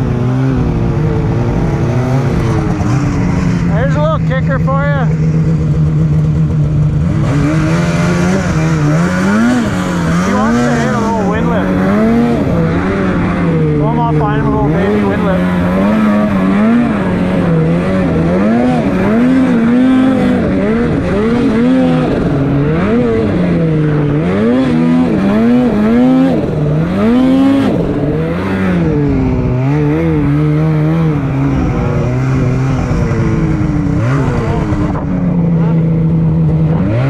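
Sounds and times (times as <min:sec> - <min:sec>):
snowmobile engine revving: 0:00.0 - 0:37.0.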